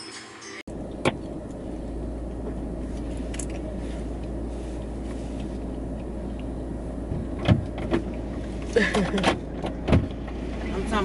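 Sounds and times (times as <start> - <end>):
car engine idling: 0.7 - 11.0.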